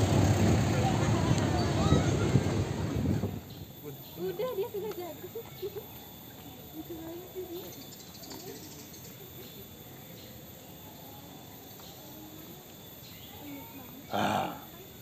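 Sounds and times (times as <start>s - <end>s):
distant people talking: 0.0s - 15.0s
outdoor background noise: 0.0s - 15.0s.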